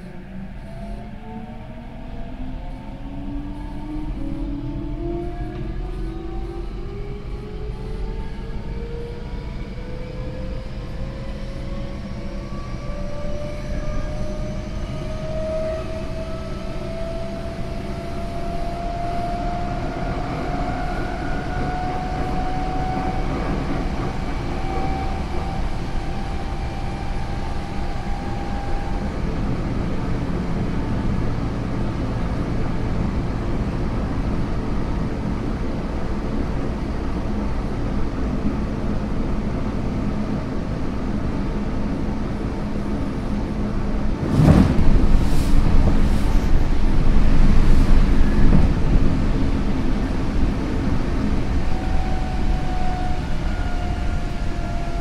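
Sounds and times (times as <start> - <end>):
wheels rumbling on rails: 0.0 - 55.0.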